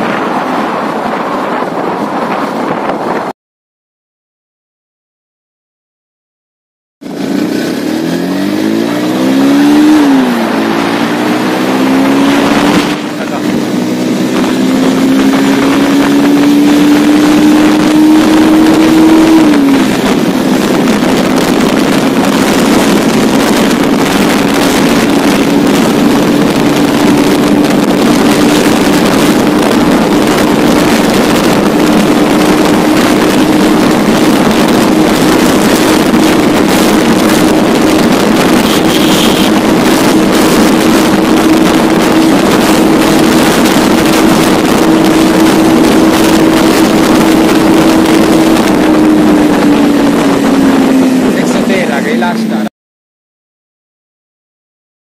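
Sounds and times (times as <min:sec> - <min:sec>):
wind rushing over microphone: 0:00.0 - 0:03.3, 0:07.0 - 0:52.7
motorcycle engine pulling hard: 0:07.0 - 0:52.6.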